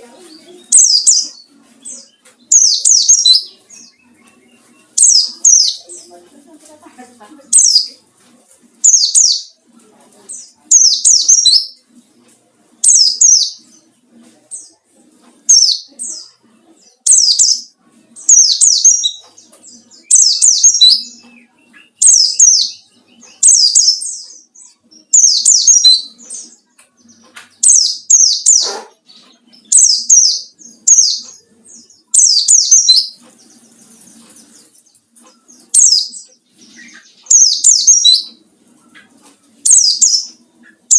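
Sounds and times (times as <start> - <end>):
bird fast chirping song: 0.1 - 6.2, 7.5 - 8.0, 8.8 - 9.6, 10.3 - 12.0, 12.8 - 13.9, 15.4 - 40.9.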